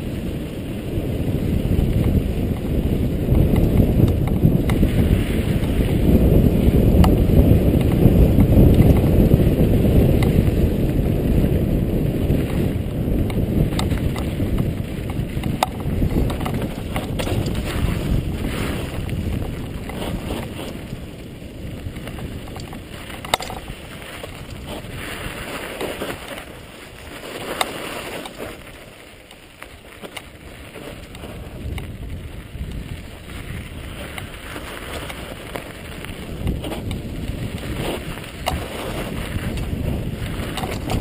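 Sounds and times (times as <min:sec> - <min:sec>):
bike tyres rolling on gravel: 0:00.0 - 0:41.0
wind on microphone: 0:00.0 - 0:41.0.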